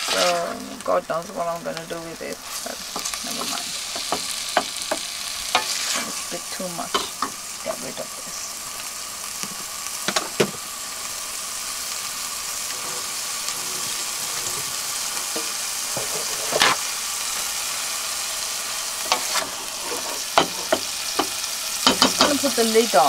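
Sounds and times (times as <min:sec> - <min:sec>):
meat sizzling in a saucepan: 0:00.0 - 0:23.0.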